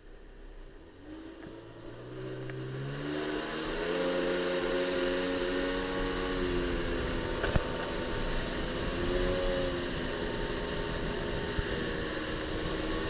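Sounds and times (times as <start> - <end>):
jet ski engine revving: 0.8 - 13.0.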